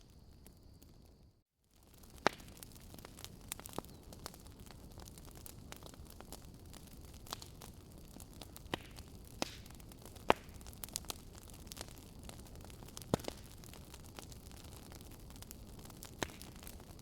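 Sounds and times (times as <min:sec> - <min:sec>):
fire popping: 0:00.0 - 0:17.0.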